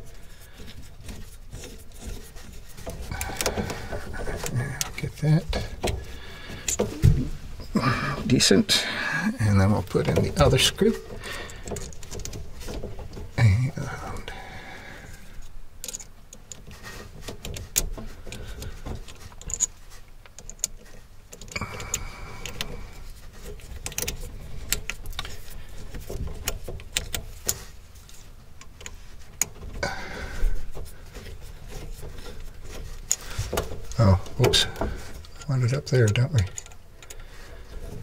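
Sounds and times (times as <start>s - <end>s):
metal hose weight clicking and rattling: 0.0s - 7.0s, 9.5s - 14.3s, 15.0s - 38.0s.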